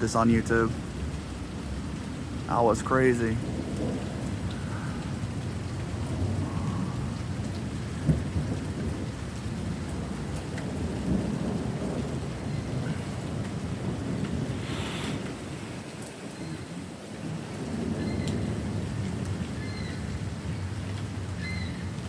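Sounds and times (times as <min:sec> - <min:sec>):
steady rain falling: 0:00.0 - 0:22.0
low rumbling thunder: 0:03.2 - 0:22.0.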